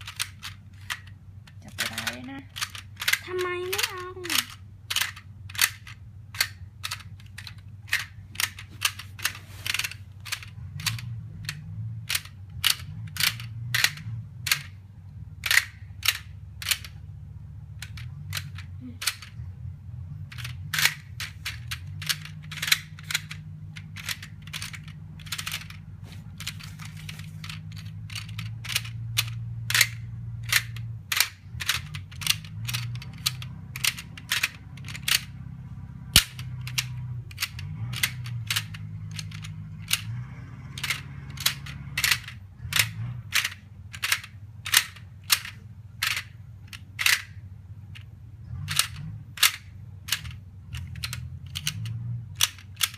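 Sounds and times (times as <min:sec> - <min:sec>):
plastic puzzle pieces clicking: 0:00.0 - 0:17.0, 0:17.7 - 0:19.5, 0:20.2 - 0:52.9
steady low hum: 0:00.0 - 0:52.9.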